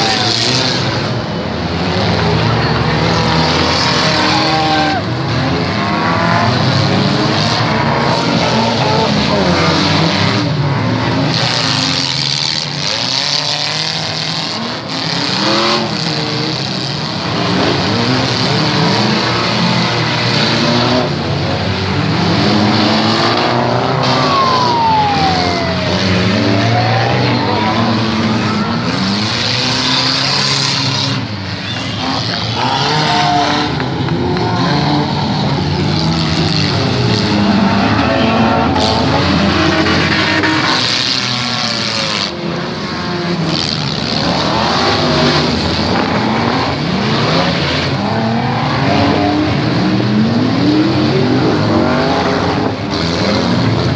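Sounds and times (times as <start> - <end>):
car engines revving hard: 0.0 - 53.9.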